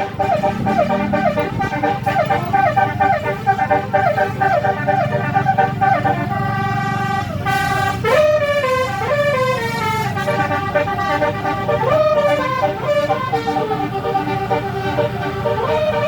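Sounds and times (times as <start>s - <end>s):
bus engine hum: 0.0s - 16.0s
multi-tone bus horn tune: 0.0s - 16.0s.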